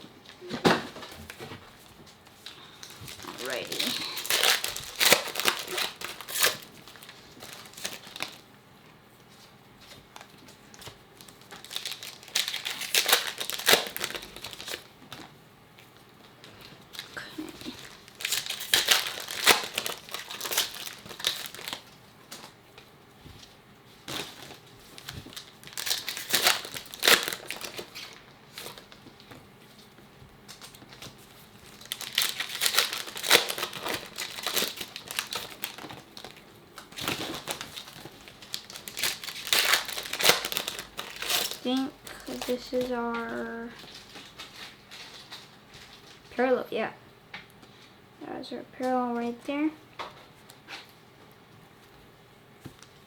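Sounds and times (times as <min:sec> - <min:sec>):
foil wrappers crinkling and tearing: 0:02.2 - 0:08.5, 0:09.2 - 0:46.5.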